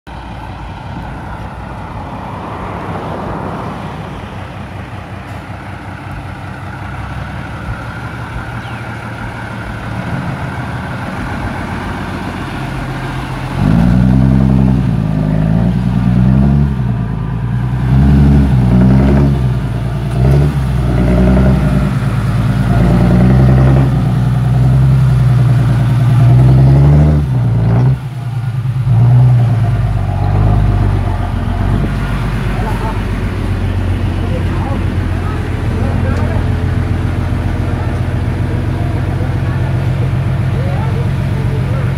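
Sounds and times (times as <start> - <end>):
truck diesel engine revving: 0.1 - 41.9.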